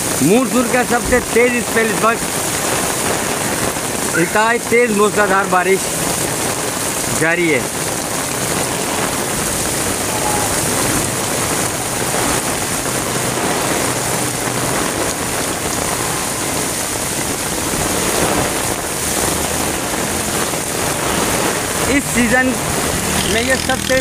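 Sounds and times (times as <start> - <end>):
heavy rain pouring on street: 0.0 - 24.0.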